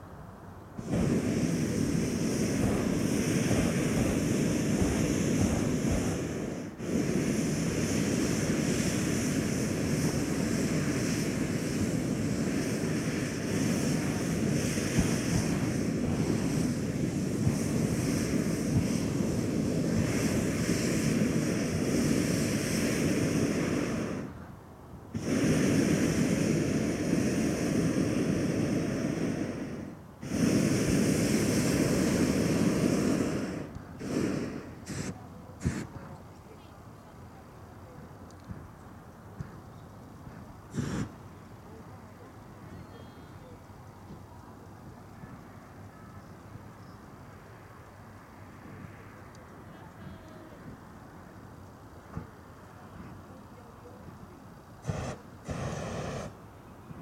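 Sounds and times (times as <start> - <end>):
propane burner firing: 0.8 - 36.4, 38.2 - 43.0, 47.2 - 57.0.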